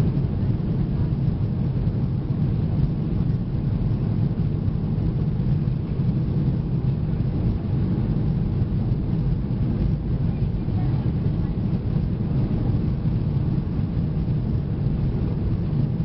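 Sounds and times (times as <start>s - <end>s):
jet engines low rumble: 0.0s - 16.0s
rushing air: 0.0s - 16.0s.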